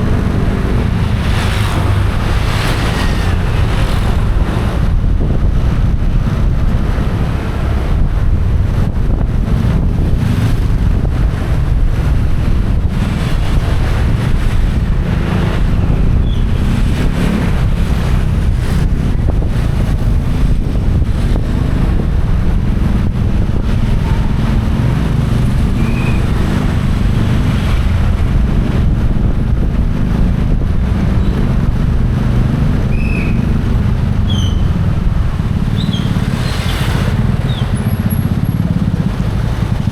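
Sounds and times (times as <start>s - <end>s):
motorcycle engine: 0.0s - 39.9s
road noise: 0.0s - 39.9s
wind buffeting microphone: 0.0s - 39.9s.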